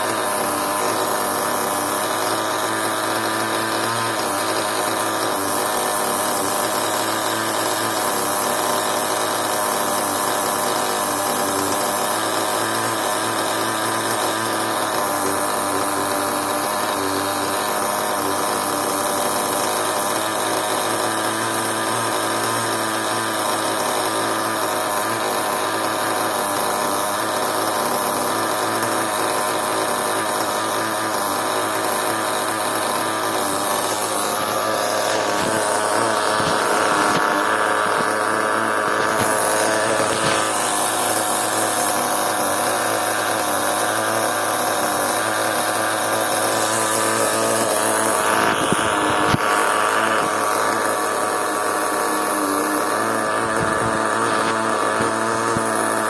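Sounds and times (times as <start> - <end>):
small nitro engine buzzing: 0.0 - 56.0.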